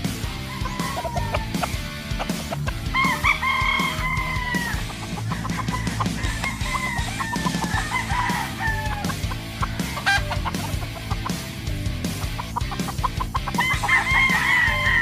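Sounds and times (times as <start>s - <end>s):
background music: 0.0s - 15.0s
roosters crowing: 0.0s - 15.0s.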